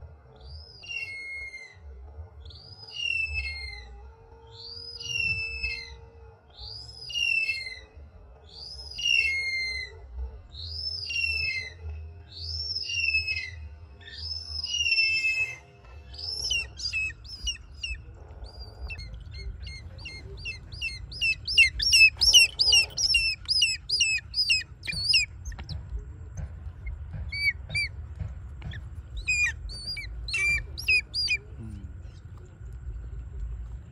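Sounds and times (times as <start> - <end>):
hawk-eagle whistling calls: 2.5 - 3.9, 4.5 - 6.0, 6.6 - 8.0, 8.6 - 32.5.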